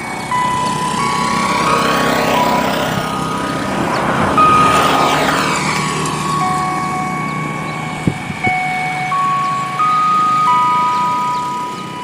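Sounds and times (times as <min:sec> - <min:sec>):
electronic warning tones: 0:00.0 - 0:12.0
vehicle passing: 0:00.0 - 0:12.0.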